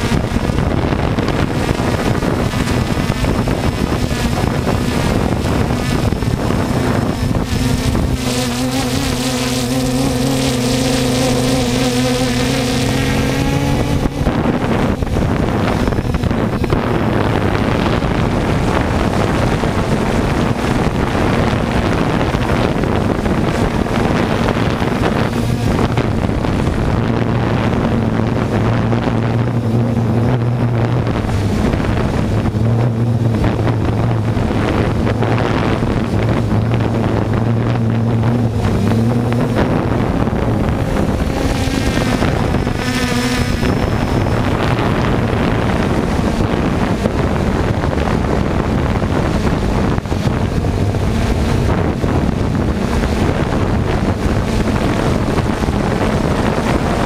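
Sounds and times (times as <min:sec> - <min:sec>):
drone propellers buzzing: 0:00.0 - 0:57.0
wind rushing over microphone: 0:00.0 - 0:57.0.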